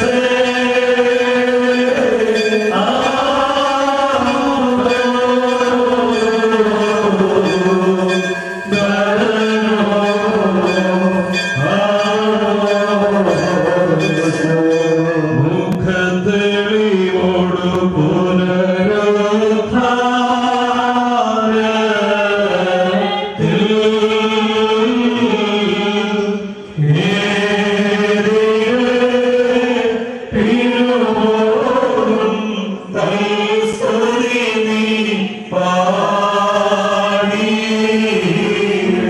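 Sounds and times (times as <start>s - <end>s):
funeral chant in held notes: 0.0s - 39.0s.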